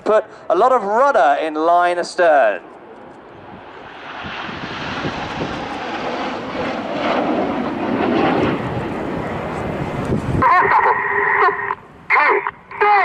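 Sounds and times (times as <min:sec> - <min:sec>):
jets flying by: 0:01.2 - 0:12.9.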